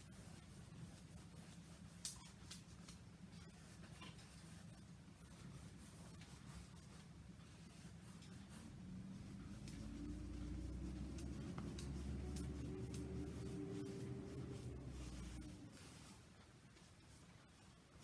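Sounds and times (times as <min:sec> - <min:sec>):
low steady hum: 0:00.0 - 0:18.0
paintbrush scratching on canvas: 0:00.0 - 0:18.0.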